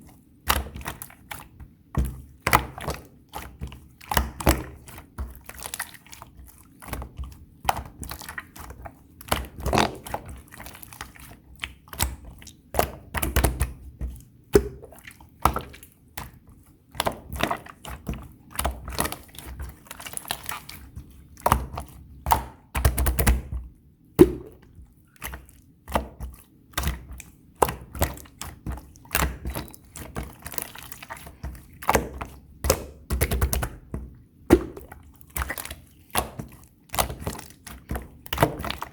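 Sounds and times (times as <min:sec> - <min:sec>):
slime squished by hand: 0:00.2 - 0:38.9.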